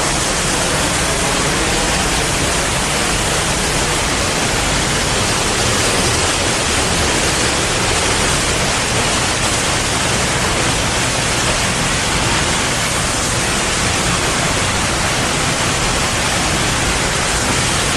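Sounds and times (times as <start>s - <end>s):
waterfall roaring: 0.0s - 17.9s.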